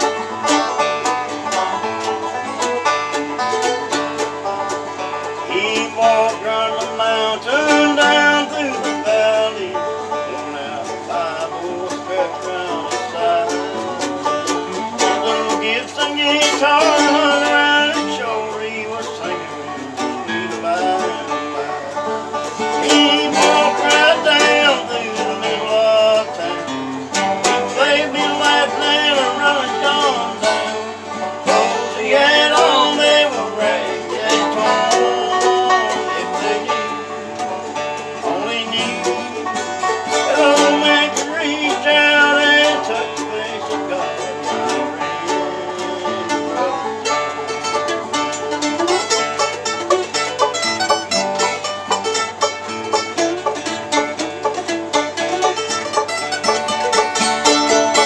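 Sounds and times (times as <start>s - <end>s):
acoustic guitar picking: 0.0s - 58.0s
banjo picking: 0.0s - 58.0s
bluegrass string band playing: 0.0s - 58.0s.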